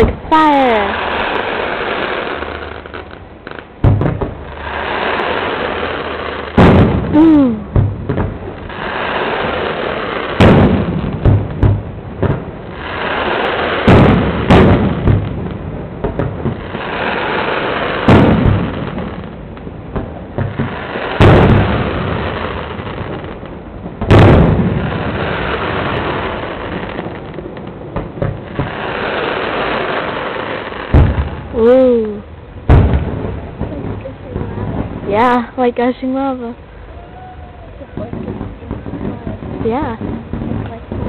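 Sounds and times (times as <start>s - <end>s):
fireworks booming: 0.0s - 41.0s
fireworks hissing: 0.0s - 41.0s.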